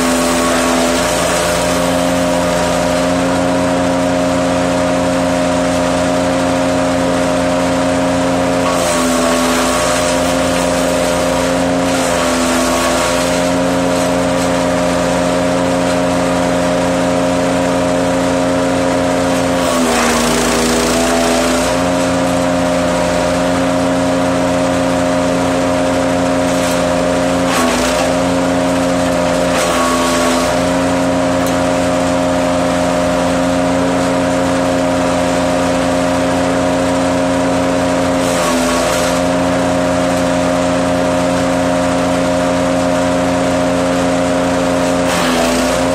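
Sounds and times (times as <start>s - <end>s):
wood chipper running: 0.0s - 45.9s.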